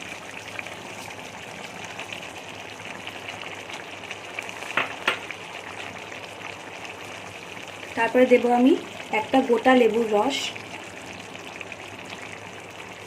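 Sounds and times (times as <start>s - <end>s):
curry bubbling and sizzling: 0.0s - 13.0s.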